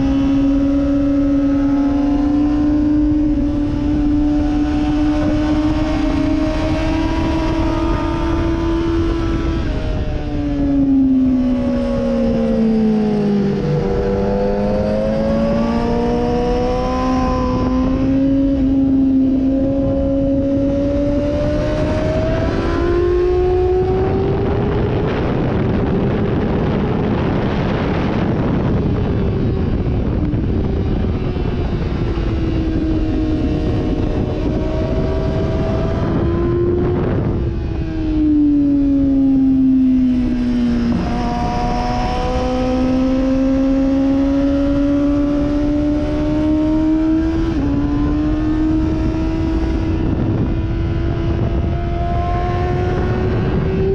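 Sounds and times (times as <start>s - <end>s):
motorcycle engine revving: 0.0s - 53.9s
wind rushing: 0.0s - 53.9s.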